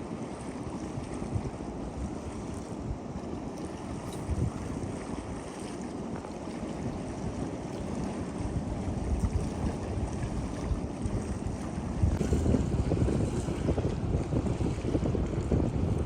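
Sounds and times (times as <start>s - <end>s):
sea surf: 0.0s - 16.0s
wind buffeting microphone: 0.0s - 16.0s.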